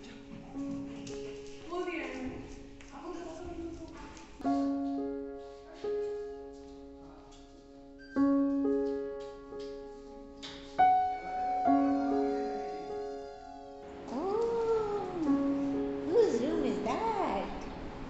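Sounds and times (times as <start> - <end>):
slow soft piano music: 0.0 - 18.0.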